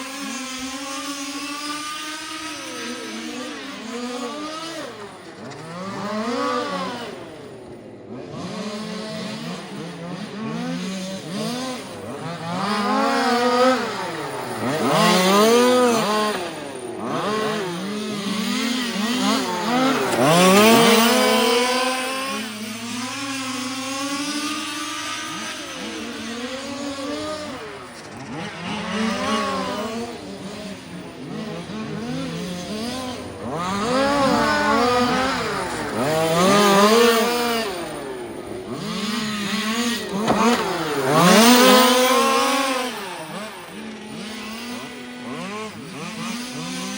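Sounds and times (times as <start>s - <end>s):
small two-stroke engines running hard: 0.0s - 46.9s.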